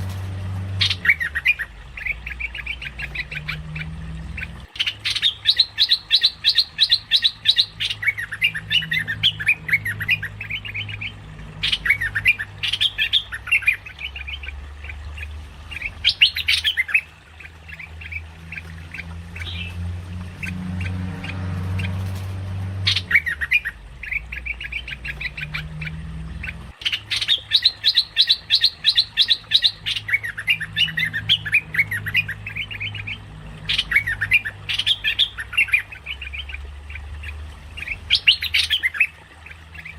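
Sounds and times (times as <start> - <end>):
bird chattering song: 0.0 - 39.9
low steady hum: 0.0 - 39.9.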